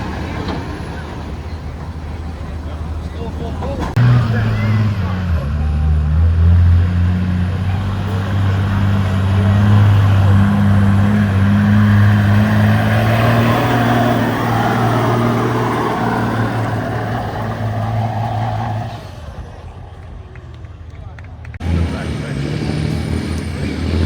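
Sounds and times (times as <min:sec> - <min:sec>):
diesel truck engine at high revs: 0:00.0 - 0:24.0.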